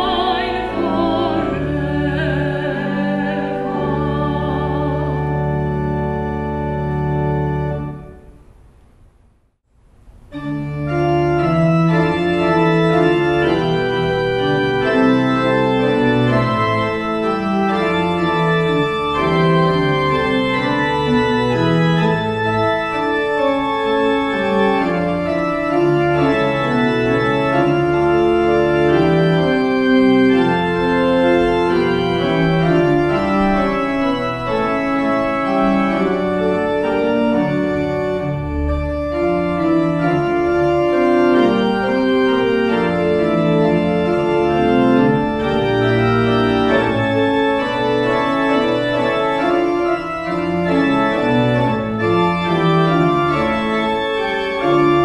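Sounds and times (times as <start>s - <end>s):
pipe organ chords: 0.0s - 8.7s, 10.0s - 55.0s.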